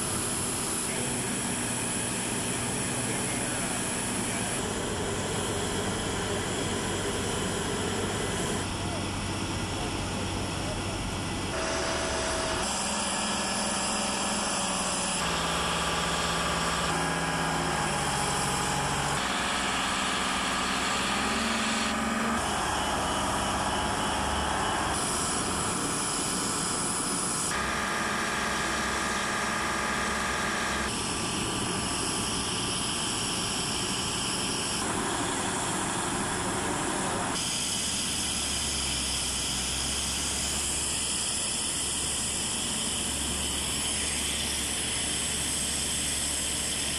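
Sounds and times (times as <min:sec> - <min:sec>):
heavy vehicle engines running: 0:00.0 - 0:46.9.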